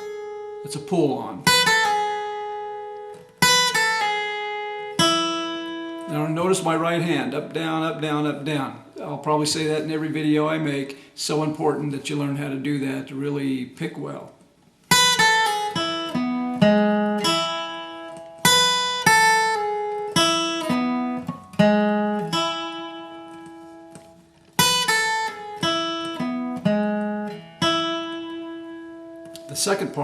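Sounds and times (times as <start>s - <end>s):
acoustic guitar picked riff: 0.0s - 11.5s, 14.7s - 30.0s.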